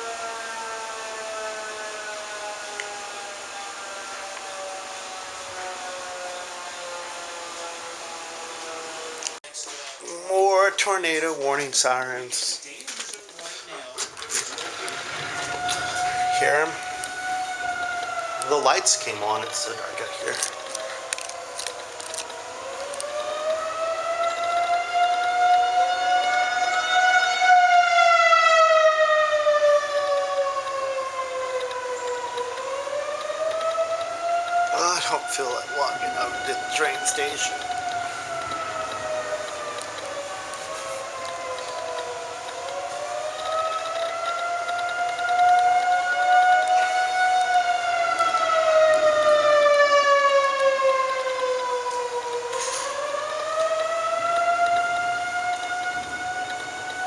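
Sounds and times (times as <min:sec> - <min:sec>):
tornado warning sirens wailing: 0:00.0 - 0:57.0.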